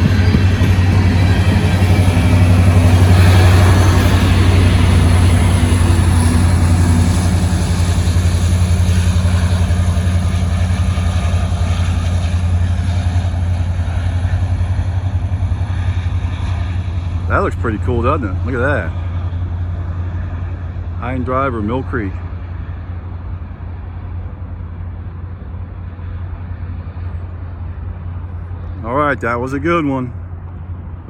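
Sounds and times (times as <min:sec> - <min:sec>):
locomotive engine drone: 0:00.0 - 0:31.0
rolling train rumble: 0:00.0 - 0:31.0.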